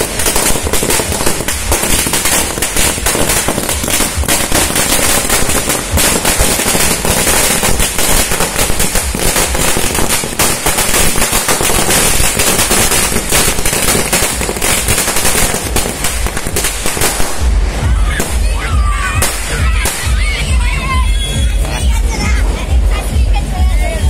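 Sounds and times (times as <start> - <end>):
firecrackers rattling: 0.0 - 20.6.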